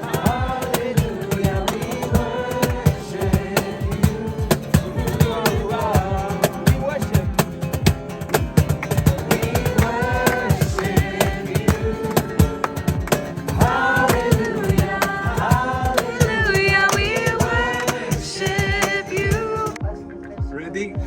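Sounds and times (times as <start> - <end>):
strummed guitar: 0.0 - 19.8
voices singing: 0.0 - 20.1
percussion: 0.0 - 21.0.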